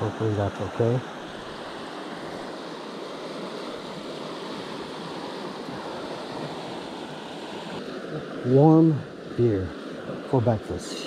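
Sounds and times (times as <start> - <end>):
river current rushing: 0.0 - 11.0.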